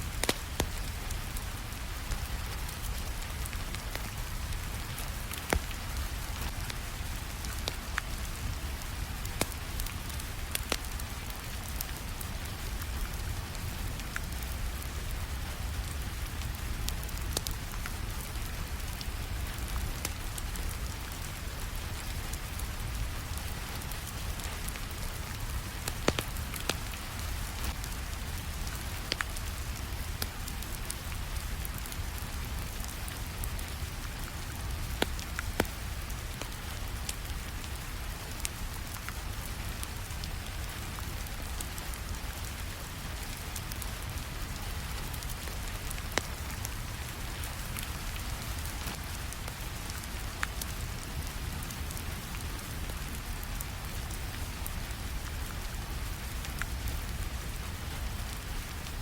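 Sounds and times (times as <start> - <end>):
steady rainfall: 0.0 - 59.0
wood fire crackling: 0.0 - 59.0.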